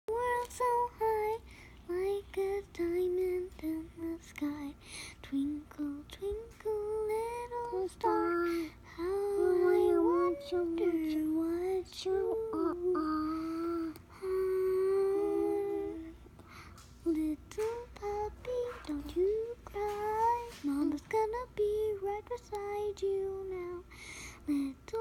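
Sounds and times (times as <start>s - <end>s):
child singing wordless tune: 0.1s - 16.4s, 17.0s - 25.0s.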